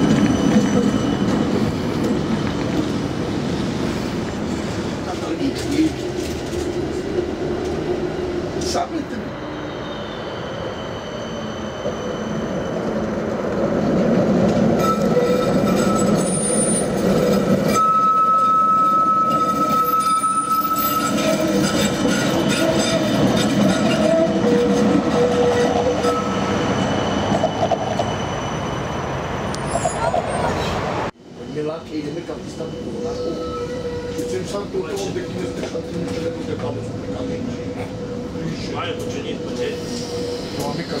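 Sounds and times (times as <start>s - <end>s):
tram rumbling: 0.0s - 41.0s
tram wheels squealing: 0.0s - 41.0s.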